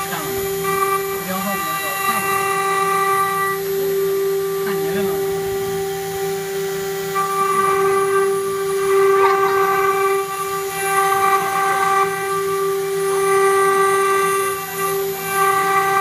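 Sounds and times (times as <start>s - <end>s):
router spindle whine milling metal: 0.0s - 16.0s.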